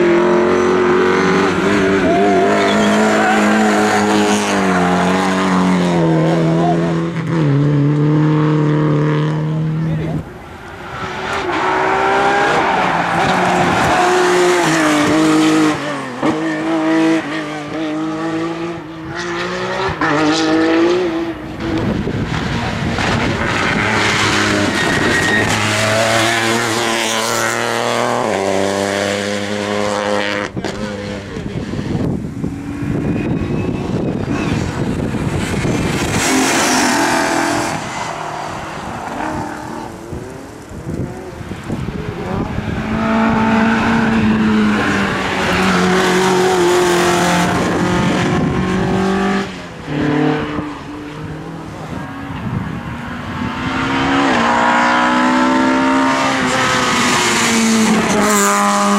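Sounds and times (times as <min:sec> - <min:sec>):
race car engine revving: 0:00.0 - 0:58.9.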